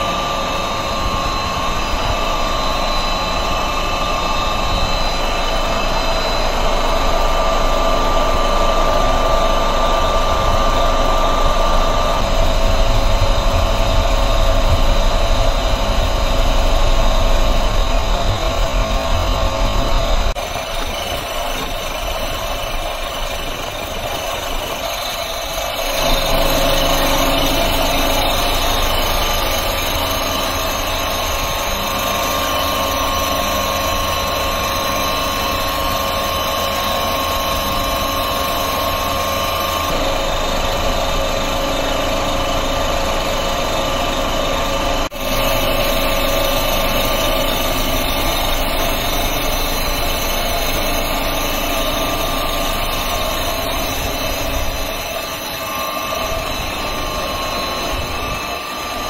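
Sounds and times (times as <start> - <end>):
pasta machinery humming: 0.0 - 59.0.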